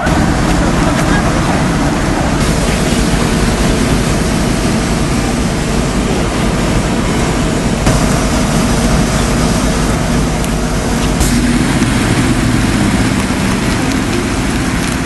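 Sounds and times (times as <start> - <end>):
street background noise: 0.0 - 15.0.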